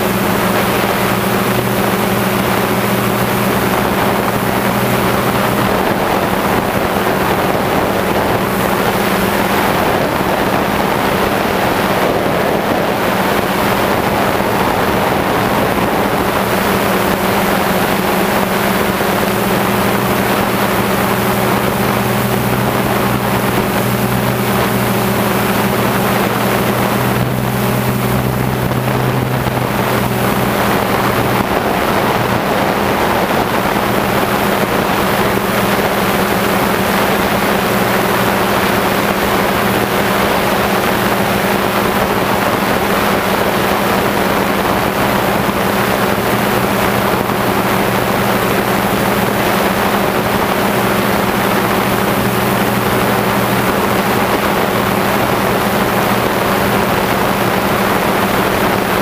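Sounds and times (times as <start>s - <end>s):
engine droning: 0.0s - 59.0s
wind on microphone: 0.0s - 59.0s.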